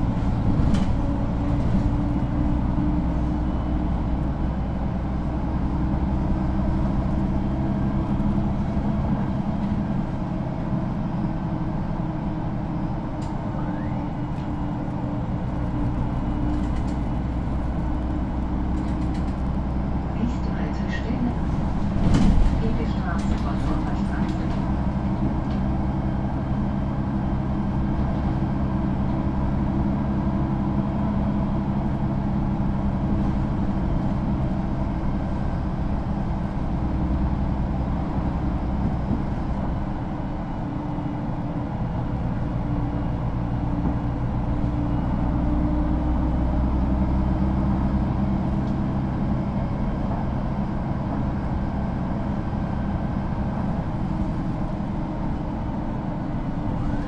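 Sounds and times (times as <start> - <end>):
bus diesel engine rumble: 0.0 - 57.0.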